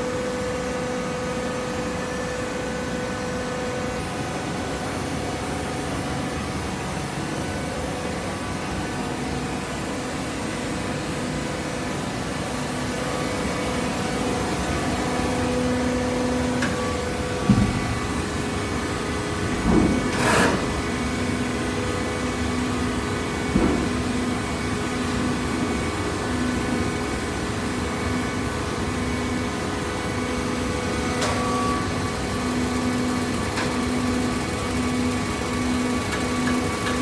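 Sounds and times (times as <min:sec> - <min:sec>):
baler motor and pump hum: 0:00.0 - 0:37.0.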